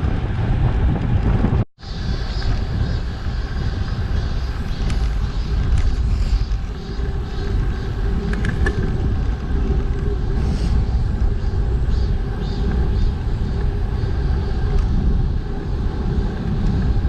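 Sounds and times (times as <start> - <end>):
road and tyre noise: 0.0 - 17.0
wind buffeting microphone: 0.0 - 17.0.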